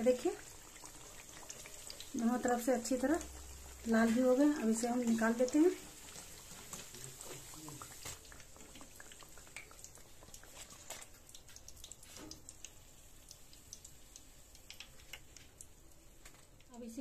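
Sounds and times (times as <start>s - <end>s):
hot oil crackling and popping: 0.0s - 17.0s.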